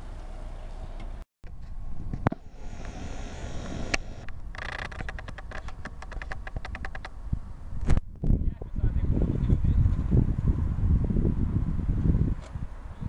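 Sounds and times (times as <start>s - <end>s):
low wind rumble: 1.5s - 13.0s.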